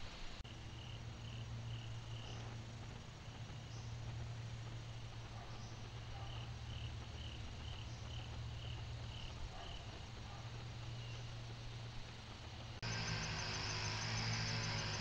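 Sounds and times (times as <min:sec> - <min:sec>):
steady low hum: 0:00.0 - 0:15.0
cricket chirping: 0:00.5 - 0:11.8, 0:12.8 - 0:15.0.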